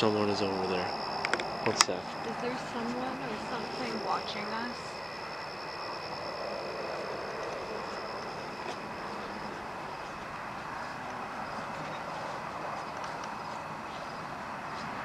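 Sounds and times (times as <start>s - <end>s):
background noise: 0.0s - 15.0s
thin high whine: 0.0s - 15.0s.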